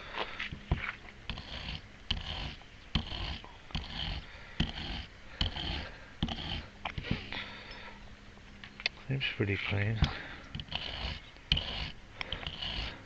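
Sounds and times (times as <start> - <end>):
scratchy scrubbing strokes: 0.0 - 7.6, 9.6 - 13.0.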